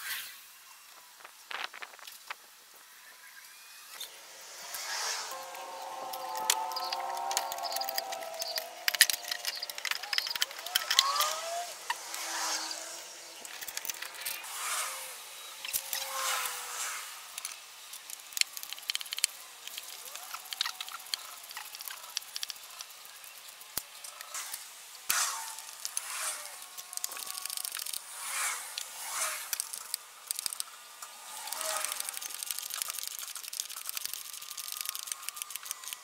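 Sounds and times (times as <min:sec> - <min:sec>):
scraping and rubbing: 0:04.0 - 0:23.4, 0:24.1 - 0:36.0.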